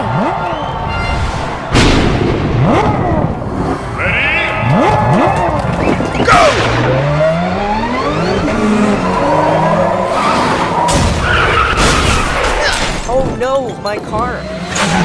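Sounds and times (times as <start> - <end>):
car engine revving: 0.0 - 12.7, 14.0 - 15.0.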